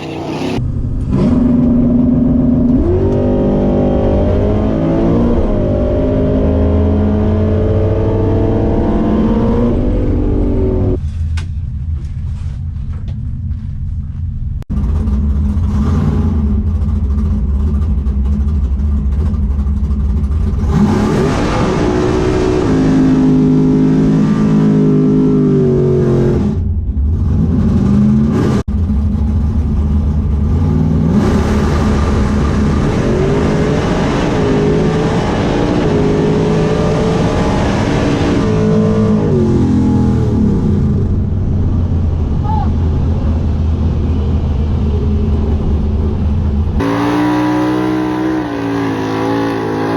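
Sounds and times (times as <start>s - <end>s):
drag car engine revving: 0.0s - 11.0s, 14.7s - 41.5s, 43.4s - 49.9s.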